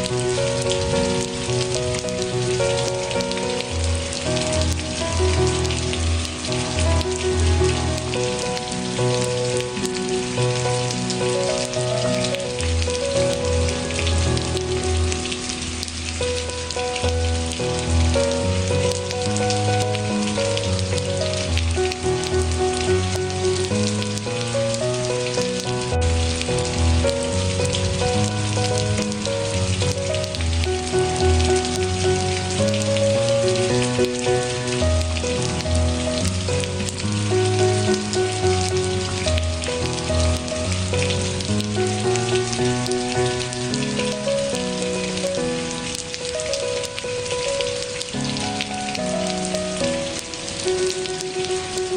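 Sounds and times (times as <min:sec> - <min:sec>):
soft instrumental music: 0:00.0 - 0:51.9
steady rain: 0:00.0 - 0:51.9.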